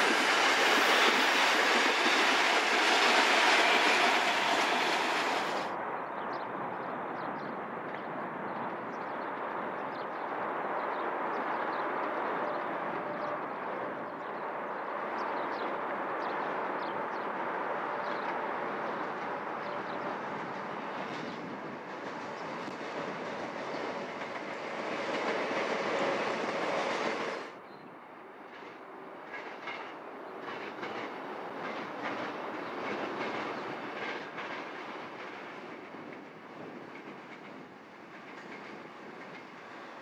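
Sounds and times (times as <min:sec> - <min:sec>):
train wheels rumbling on rail: 0:00.0 - 0:05.8, 0:11.0 - 0:27.6, 0:28.3 - 0:40.0.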